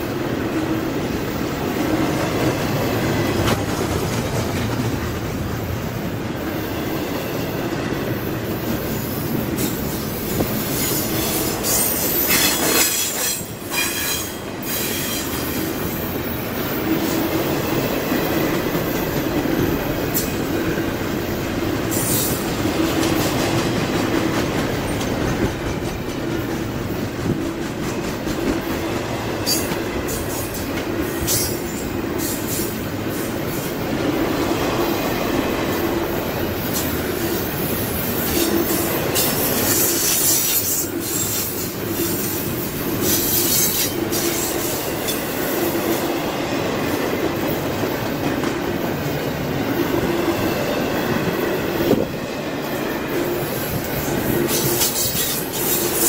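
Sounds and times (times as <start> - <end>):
freight train wheels on rail: 0.0 - 56.0.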